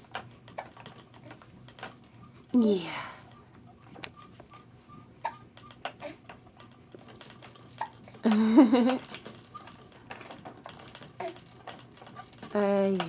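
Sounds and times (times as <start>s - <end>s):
baby bouncer clicking and tapping: 0.0s - 13.0s.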